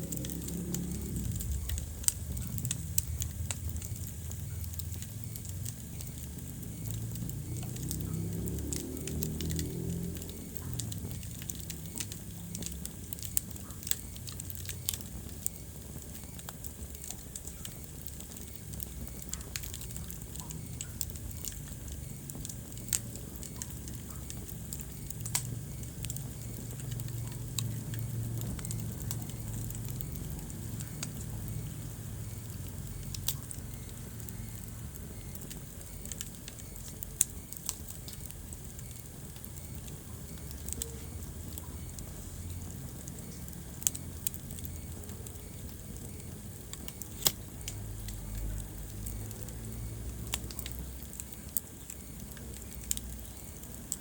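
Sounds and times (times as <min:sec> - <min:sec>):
low rumble of flame: 0:00.0 - 0:54.0
wood fire crackling and popping: 0:00.0 - 0:54.0.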